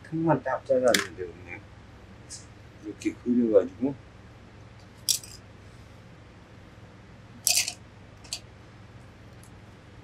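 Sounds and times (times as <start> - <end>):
faint steady low hum: 0.0 - 10.0.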